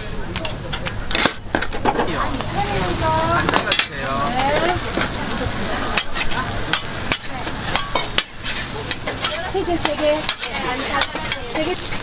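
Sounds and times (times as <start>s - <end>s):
metal spatula scraping griddle: 1.2s - 12.0s
food sizzling on a griddle: 1.8s - 12.0s.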